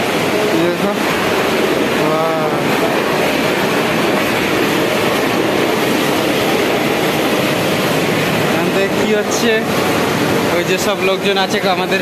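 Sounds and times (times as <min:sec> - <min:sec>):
water gushing and splashing: 0:00.0 - 0:12.0.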